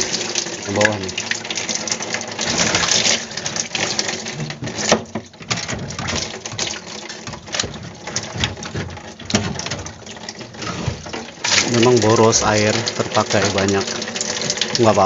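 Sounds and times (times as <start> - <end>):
hose water splashing on ice: 0.0 - 15.0
meltwater dripping: 0.0 - 15.0
ice shifting: 2.0 - 15.0.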